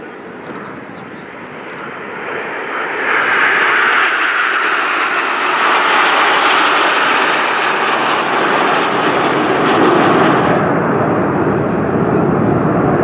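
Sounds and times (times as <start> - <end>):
jets flying overhead: 0.0 - 13.0.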